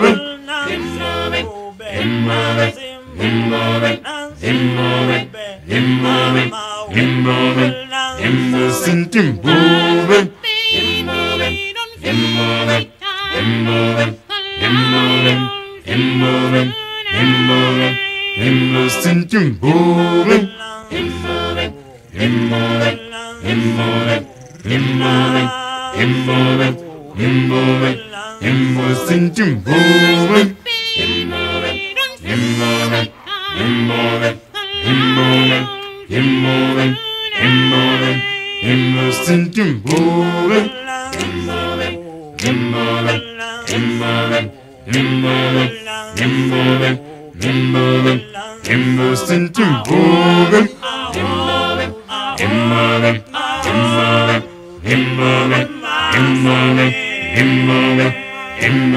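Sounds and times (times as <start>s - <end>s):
a cappella choral singing: 0.0s - 58.9s.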